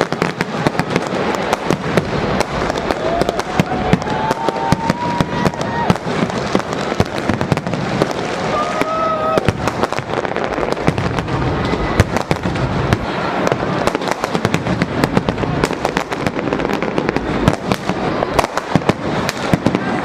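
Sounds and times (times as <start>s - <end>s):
firecrackers crackling: 0.0s - 20.0s
fireworks bangs and pops: 0.0s - 20.0s.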